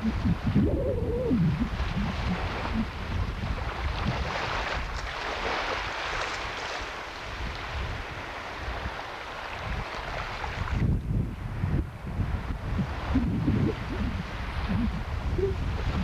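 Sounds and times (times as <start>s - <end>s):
waves washing up a beach: 0.0s - 16.0s
wind on the microphone: 0.0s - 16.0s.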